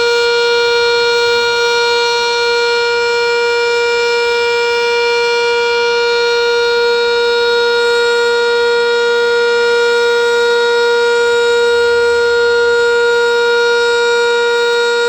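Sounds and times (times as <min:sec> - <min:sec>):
steady warning siren: 0:00.0 - 0:15.0.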